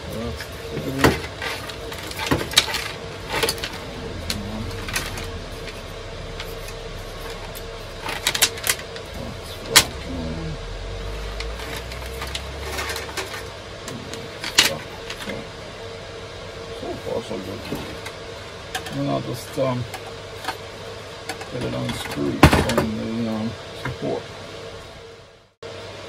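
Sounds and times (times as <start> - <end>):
computer servers humming: 0.0 - 26.0.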